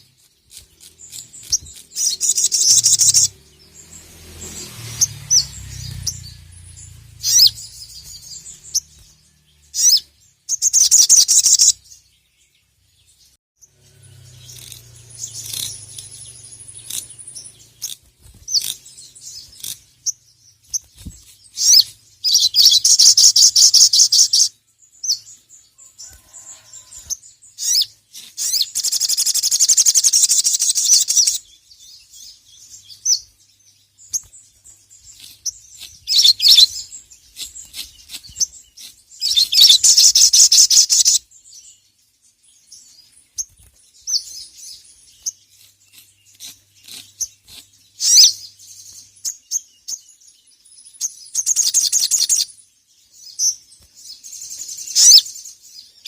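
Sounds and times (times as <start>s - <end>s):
bird singing chattering trills: 0.0s - 56.0s.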